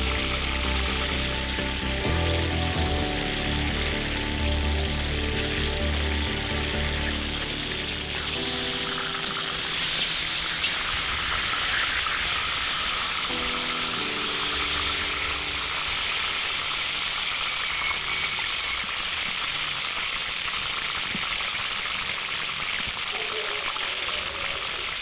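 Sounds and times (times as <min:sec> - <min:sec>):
meat and vegetables sizzling: 0:00.0 - 0:25.0.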